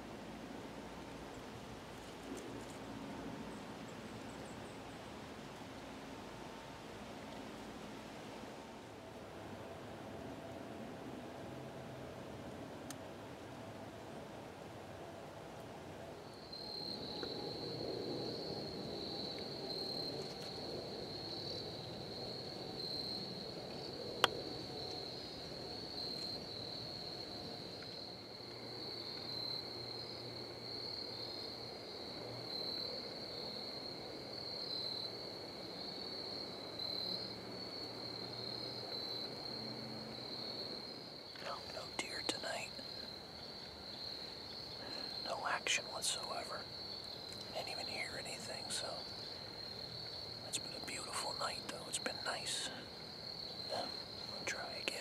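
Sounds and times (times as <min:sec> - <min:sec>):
crickets chirring: 0:00.0 - 0:12.6, 0:13.2 - 0:55.0
fainter lower insect song: 0:00.0 - 0:55.0.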